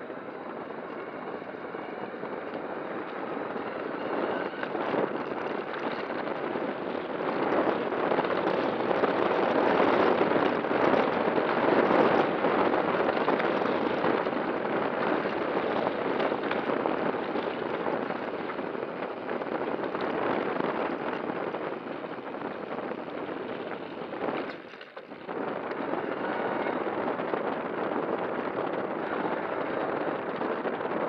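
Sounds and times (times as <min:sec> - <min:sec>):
bike tyres rolling over gravel: 0:00.0 - 0:31.0.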